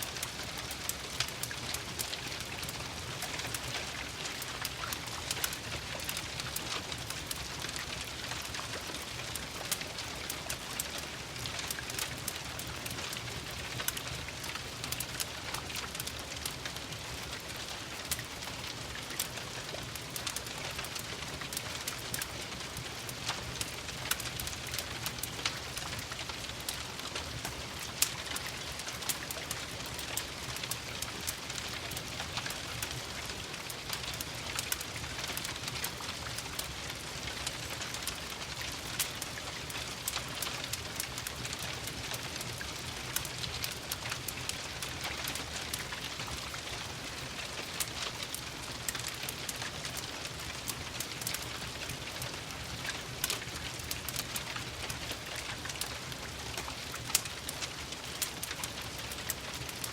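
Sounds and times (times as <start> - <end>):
rain pattering on a surface: 0.0 - 59.9
wood fire crackling: 0.0 - 59.9.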